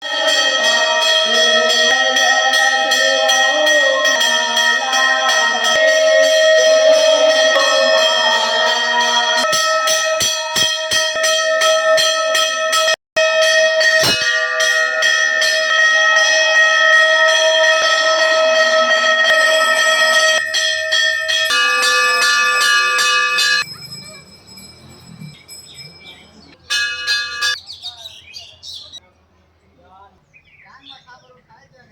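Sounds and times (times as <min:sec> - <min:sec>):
temple bells ringing: 0:00.0 - 0:29.0.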